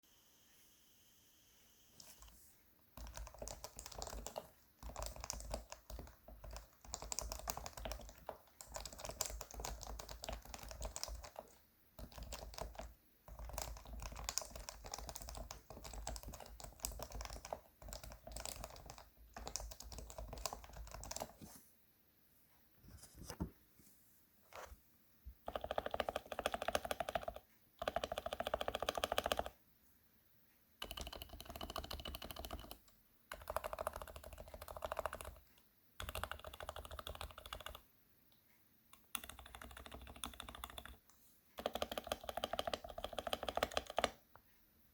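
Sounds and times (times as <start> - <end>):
keyboard typing: 2.0 - 21.5, 25.4 - 29.6, 30.8 - 37.9, 38.9 - 44.3.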